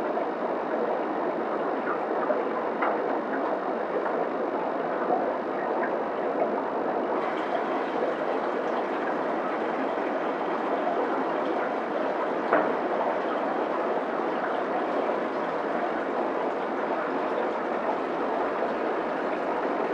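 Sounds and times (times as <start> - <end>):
aquarium water bubbling: 0.0 - 19.9.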